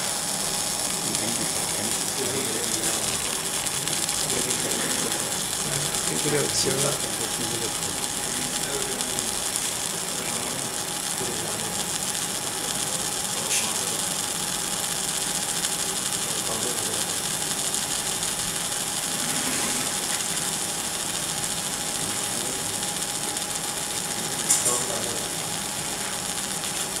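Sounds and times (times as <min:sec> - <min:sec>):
laser engraving hiss and buzz: 0:00.0 - 0:27.0.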